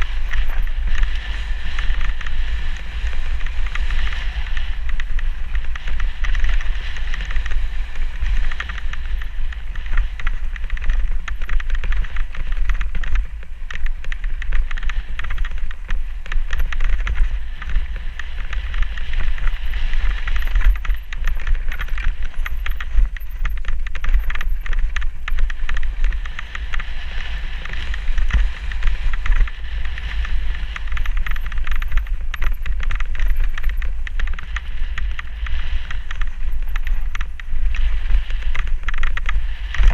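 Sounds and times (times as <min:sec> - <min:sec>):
bike knocks and rattles: 0:00.0 - 0:39.9
bike tyres on dirt and stones: 0:00.0 - 0:39.9
wind buffeting microphone: 0:00.0 - 0:39.9.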